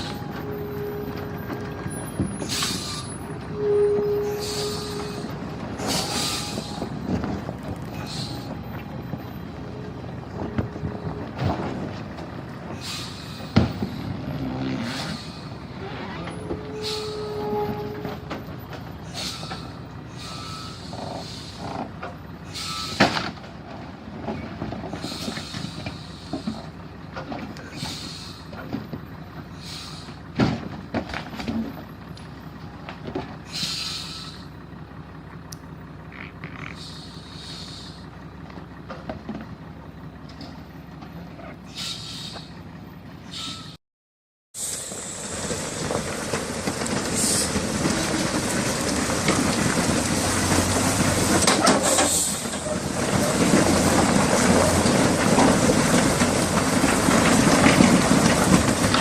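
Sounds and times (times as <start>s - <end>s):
truck engine running: 0.0s - 43.8s, 44.6s - 59.0s.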